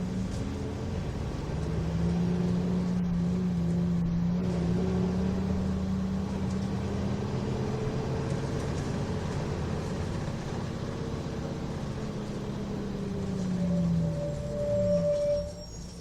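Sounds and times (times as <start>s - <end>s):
bus diesel engine drone: 0.0s - 16.0s.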